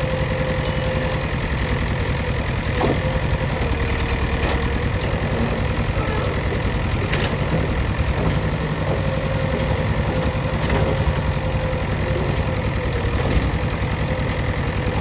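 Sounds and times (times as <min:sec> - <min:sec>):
backhoe diesel engine chugging: 0:00.0 - 0:15.0.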